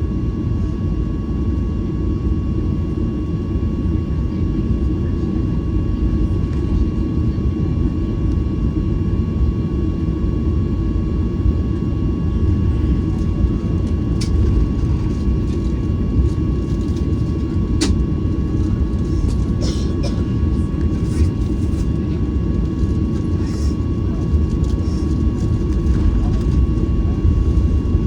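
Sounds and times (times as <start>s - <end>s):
aircraft cabin rumble: 0.0s - 28.0s
thin steady whine: 0.0s - 28.0s.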